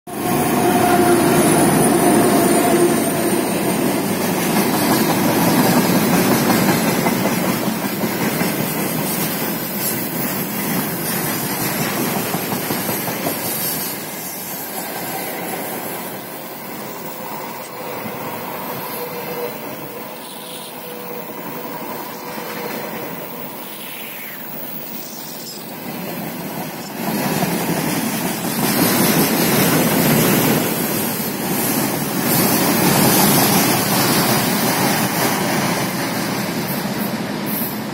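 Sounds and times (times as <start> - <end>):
diesel locomotive engine: 0.1 - 37.9
train wheels on rails: 0.1 - 37.9.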